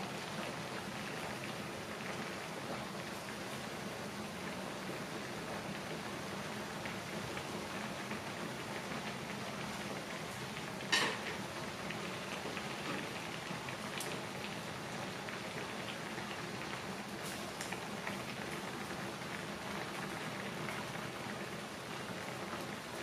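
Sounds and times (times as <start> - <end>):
broth bubbling at a boil: 0.0 - 23.0.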